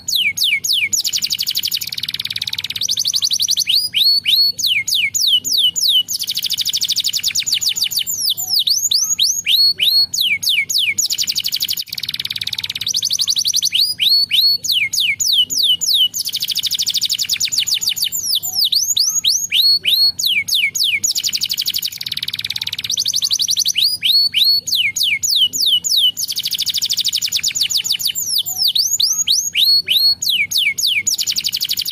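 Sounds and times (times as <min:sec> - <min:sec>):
canary singing: 0:00.0 - 0:31.9.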